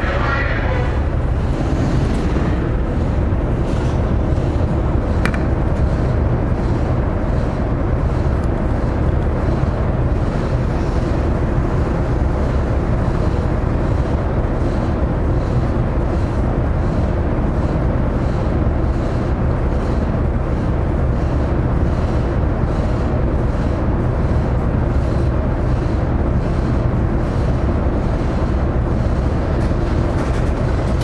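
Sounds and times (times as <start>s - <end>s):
diesel engines low rumble: 0.0s - 31.0s.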